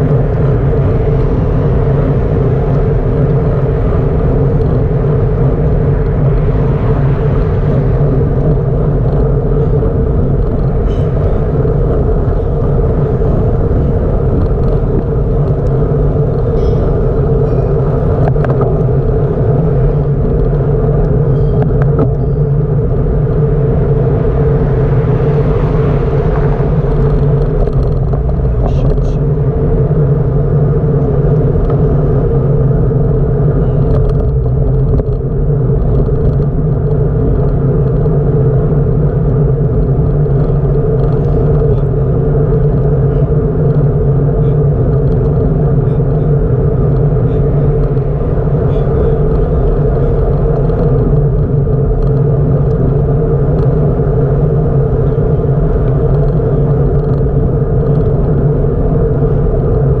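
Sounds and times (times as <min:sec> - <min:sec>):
bicycle tyre noise: 0:00.0 - 1:00.0
wind on microphone: 0:00.0 - 1:00.0.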